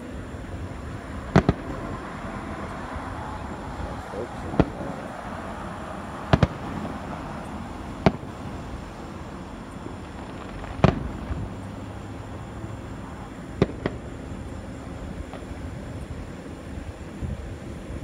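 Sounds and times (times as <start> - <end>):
fireworks bursting: 0.0 - 18.0
steady background noise: 0.0 - 18.0.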